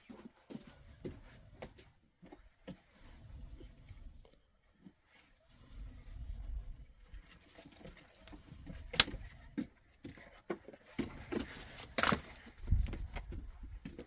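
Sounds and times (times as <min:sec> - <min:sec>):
objects being handled: 0:00.0 - 0:14.0.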